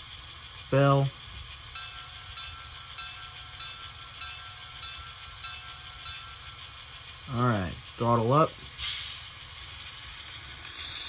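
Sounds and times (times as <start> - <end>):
model locomotive bell ringing: 0.0 - 11.0.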